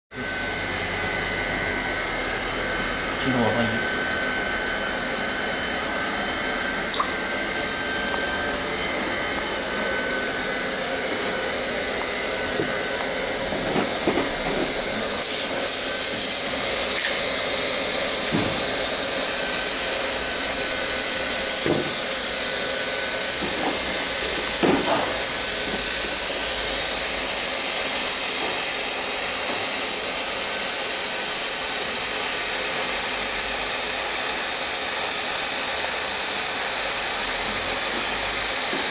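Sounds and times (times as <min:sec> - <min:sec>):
hot-air blower hissing: 0:00.1 - 0:38.9.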